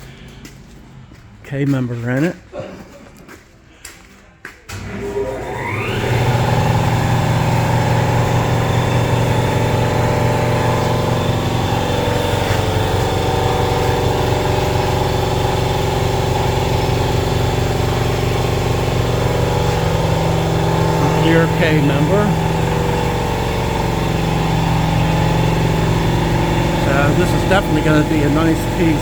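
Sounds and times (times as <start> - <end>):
machine motor humming: 4.7 - 29.0.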